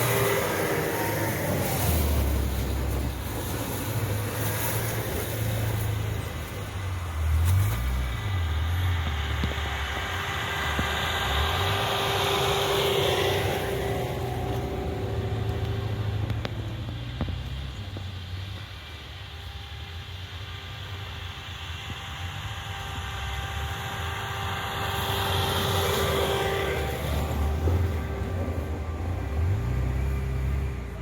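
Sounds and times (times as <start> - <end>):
faint steady whine: 0.0 - 30.6
vehicle engine and road rumble: 0.0 - 31.0.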